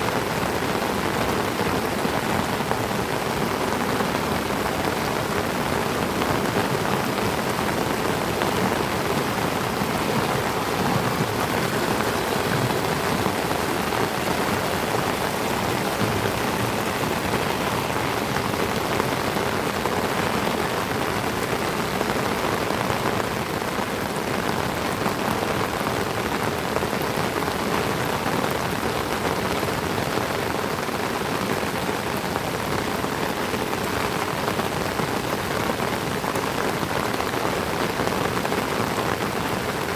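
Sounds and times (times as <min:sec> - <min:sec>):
heavy rain on trees: 0:00.0 - 0:39.9.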